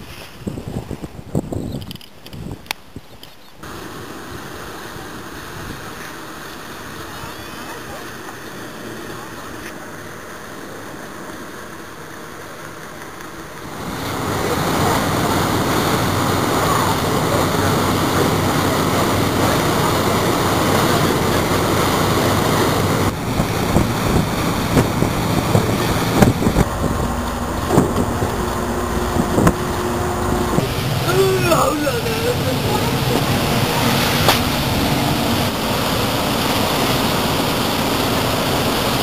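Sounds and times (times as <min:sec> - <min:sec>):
wind and water rushing: 0:00.0 - 0:39.0.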